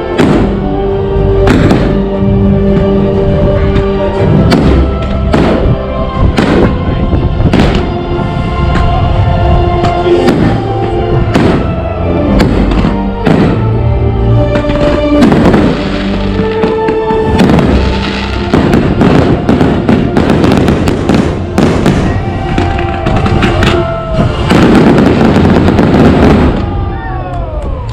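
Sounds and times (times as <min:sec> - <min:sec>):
fireworks bursting and crackling: 0:00.0 - 0:00.7, 0:01.4 - 0:09.0, 0:09.8 - 0:13.8, 0:14.4 - 0:27.9
music playing: 0:00.0 - 0:27.9.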